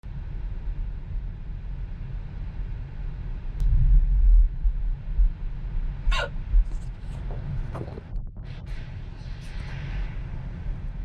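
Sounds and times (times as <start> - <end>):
car road rumble: 0.1 - 11.0.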